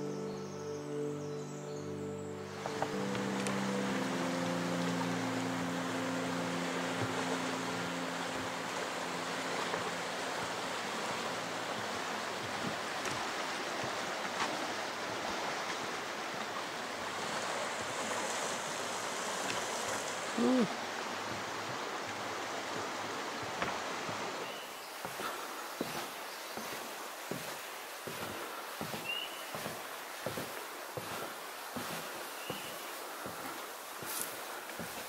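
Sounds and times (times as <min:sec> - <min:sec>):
river water rushing: 0:01.7 - 0:35.0.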